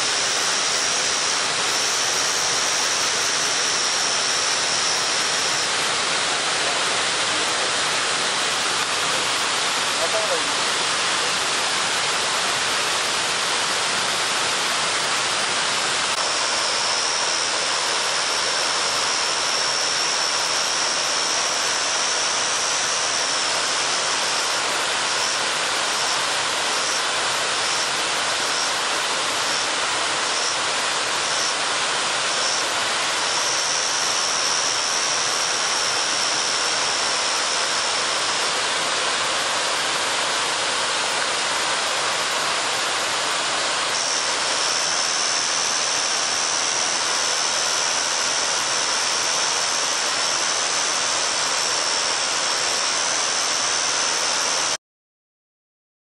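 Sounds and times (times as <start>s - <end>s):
thin high-pitched pulsing tone: 0.0s - 54.7s
waterfall rushing: 0.0s - 54.8s.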